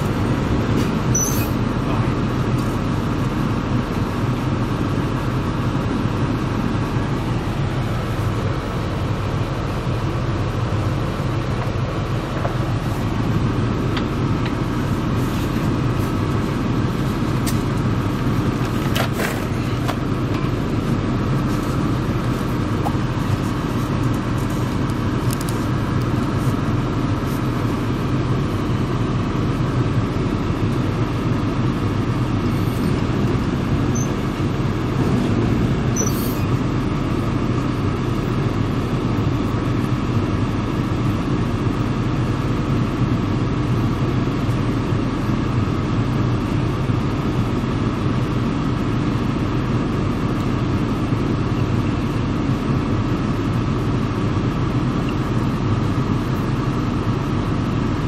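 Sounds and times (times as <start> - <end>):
train diesel engine idling: 0.0 - 58.0.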